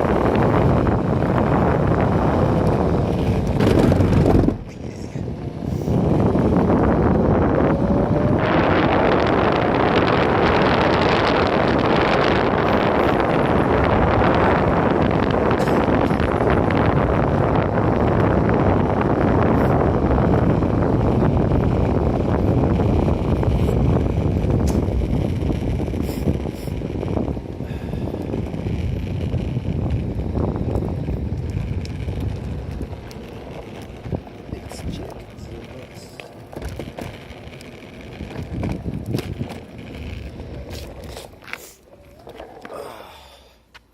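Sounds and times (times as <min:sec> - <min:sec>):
wind buffeting microphone: 0:00.0 - 0:43.7
skateboard rolling rumble: 0:00.0 - 0:43.9.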